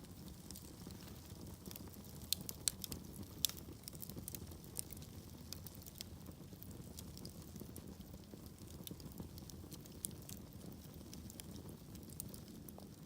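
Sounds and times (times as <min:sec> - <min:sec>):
burning logs crackling: 0:00.0 - 0:13.0
flames rumbling: 0:00.0 - 0:13.0.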